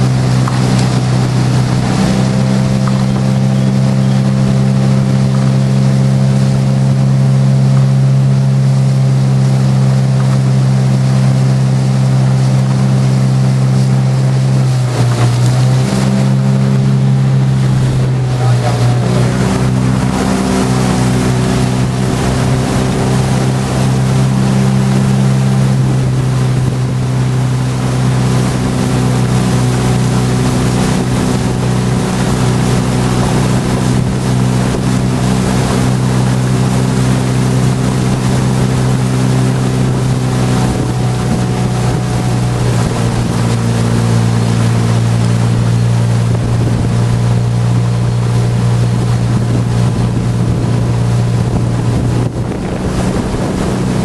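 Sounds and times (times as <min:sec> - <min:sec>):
boat engine humming: 0:00.0 - 0:54.0
wind and water hiss: 0:00.0 - 0:54.0.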